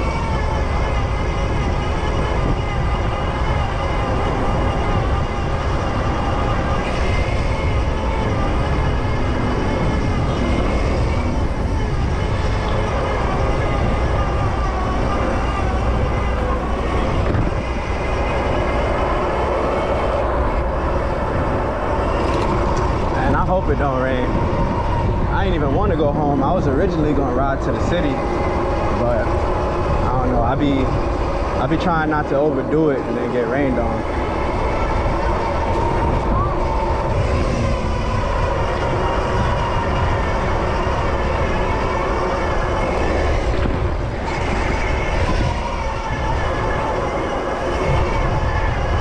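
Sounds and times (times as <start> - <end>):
city traffic noise: 0.0 - 49.0
low rumble: 0.0 - 49.0
thin steady whine: 0.0 - 49.0
wind rush on microphone: 0.0 - 49.0.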